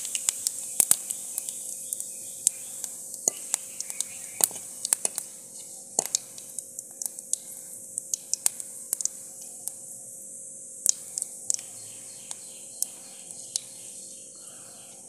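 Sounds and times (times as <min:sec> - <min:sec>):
sharp crackling pops: 0:00.0 - 0:09.8, 0:10.8 - 0:13.7
seeds sizzling in hot oil: 0:00.0 - 0:14.8.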